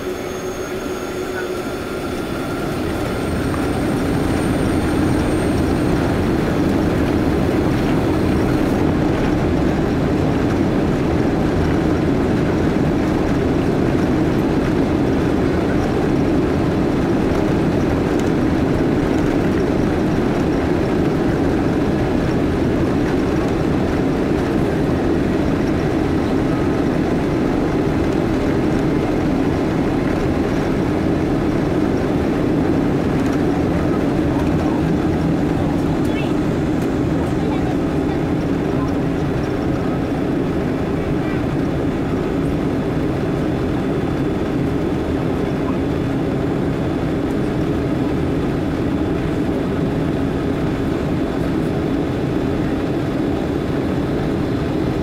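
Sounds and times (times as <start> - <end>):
jet engines at takeoff thrust: 0.0 - 55.0
wheels rumbling on runway: 0.0 - 55.0.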